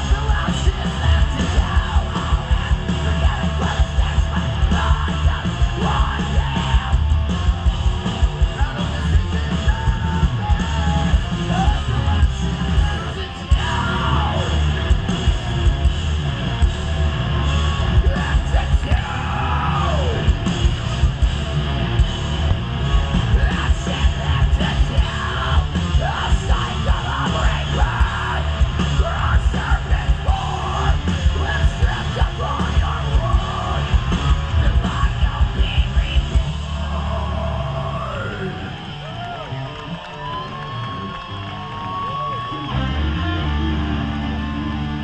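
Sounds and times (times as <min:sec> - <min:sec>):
fast drum run: 0:00.0 - 0:38.0
metal band playing live: 0:00.0 - 0:45.0
yelled vocals: 0:00.0 - 0:45.0.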